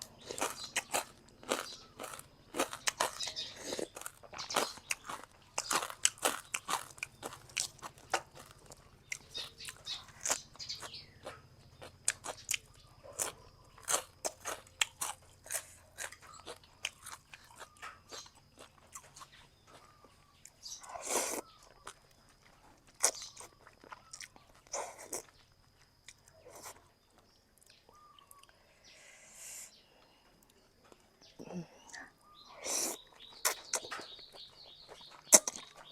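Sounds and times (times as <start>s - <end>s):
crunchy wet chewing: 0.0s - 28.6s, 32.6s - 35.9s.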